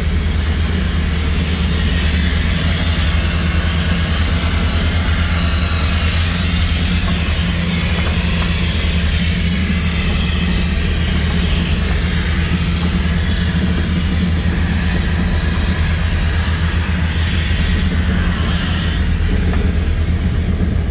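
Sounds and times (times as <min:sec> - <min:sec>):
heavy engine droning: 0:00.0 - 0:20.9.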